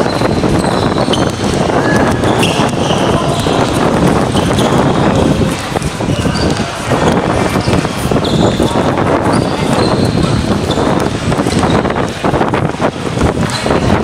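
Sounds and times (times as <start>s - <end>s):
shoe squeaks: 0.0s - 12.2s
basketball bouncing: 0.0s - 12.3s
running footsteps: 0.0s - 14.0s.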